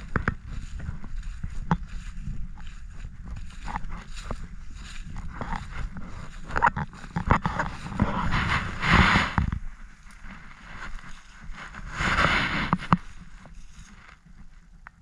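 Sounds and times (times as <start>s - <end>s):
footsteps in grass: 0.0s - 14.7s
rustling of brush and dry leaves: 0.0s - 15.0s.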